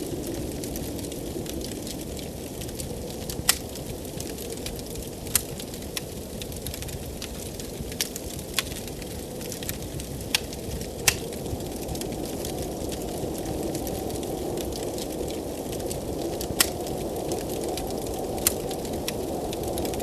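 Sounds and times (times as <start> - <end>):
blizzard wind rushing: 0.0 - 20.0
wood fire crackling: 0.0 - 20.0.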